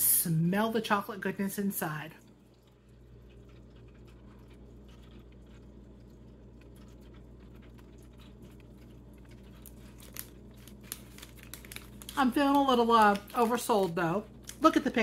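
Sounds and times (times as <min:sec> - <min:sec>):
low steady hum: 0:00.0 - 0:15.0
soft chewing: 0:02.2 - 0:14.8.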